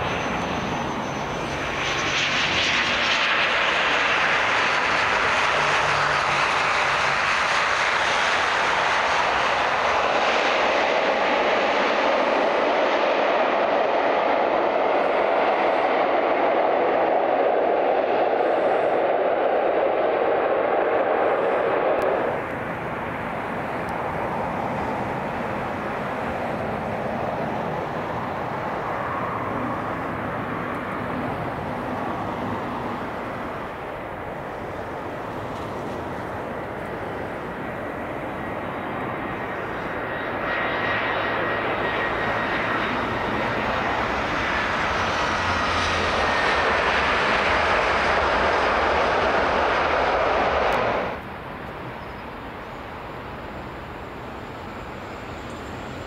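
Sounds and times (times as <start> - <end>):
airliner engines: 0.0 - 56.0
high jet engine whine: 0.0 - 56.0.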